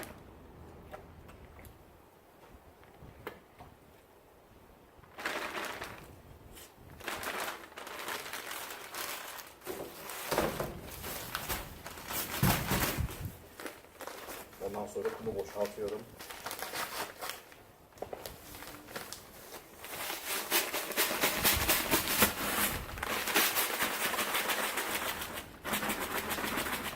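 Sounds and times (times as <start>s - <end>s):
plastic sack crinkling: 5.0s - 26.7s.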